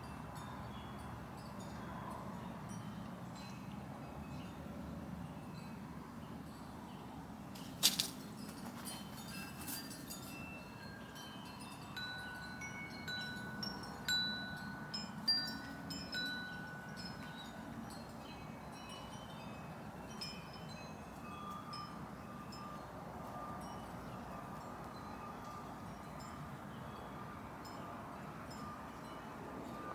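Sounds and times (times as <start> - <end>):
wind chimes ringing: 0.0 - 5.9, 8.4 - 29.9.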